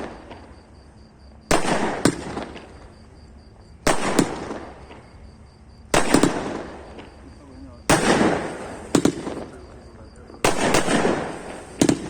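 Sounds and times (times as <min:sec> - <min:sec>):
firework shells bursting: 0:00.0 - 0:00.6, 0:01.4 - 0:03.1, 0:03.8 - 0:05.2, 0:05.9 - 0:12.0.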